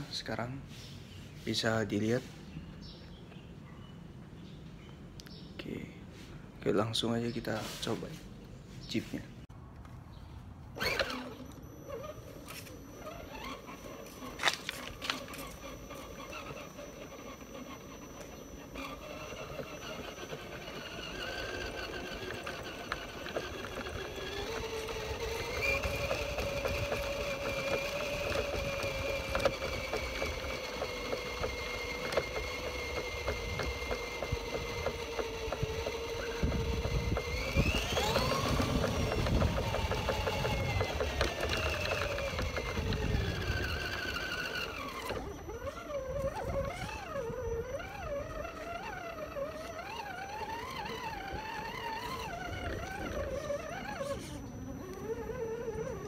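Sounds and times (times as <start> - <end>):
wheels rumbling over ground: 9.0 - 56.0
toy car electric motor whining: 10.6 - 56.0.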